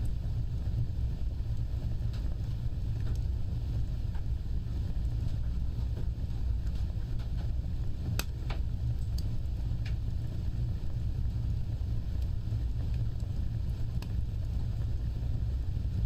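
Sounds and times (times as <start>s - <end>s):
fire crackles and pops: 0.0s - 16.0s
rumble of fire flames: 0.0s - 16.0s.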